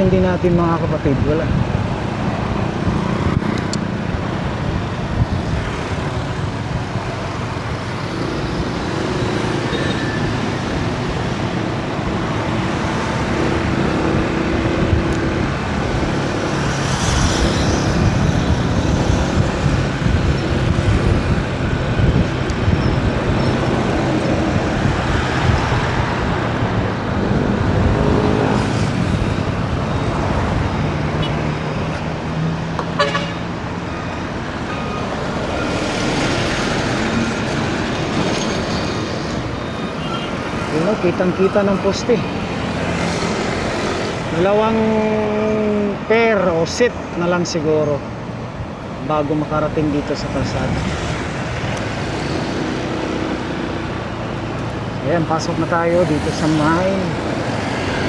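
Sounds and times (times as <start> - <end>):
road traffic engines and tyres: 0.0 - 58.0.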